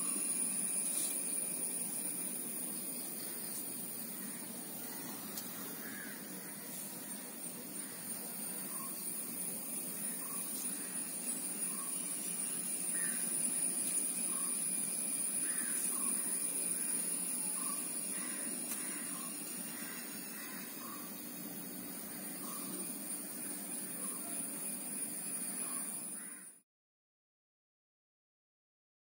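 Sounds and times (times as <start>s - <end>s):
high-pitched insect drone: 0.0s - 26.6s.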